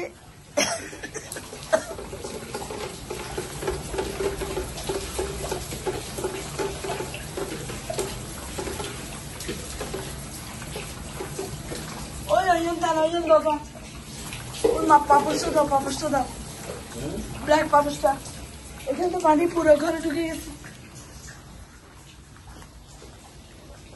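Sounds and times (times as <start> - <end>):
water splashing on tiled floor: 0.0 - 23.9.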